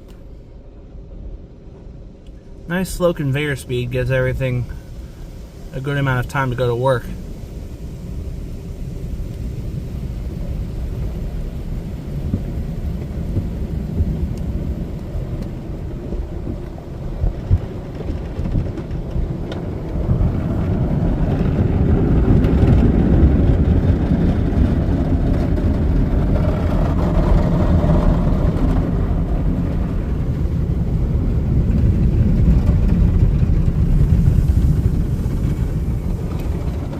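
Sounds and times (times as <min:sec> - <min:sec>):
car wash equipment rumble: 0:00.0 - 0:36.9.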